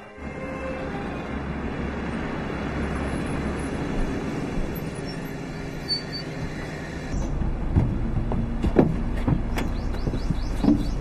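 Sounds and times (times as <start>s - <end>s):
minibus engine running: 0.0s - 11.0s
tyres on road: 0.0s - 11.0s.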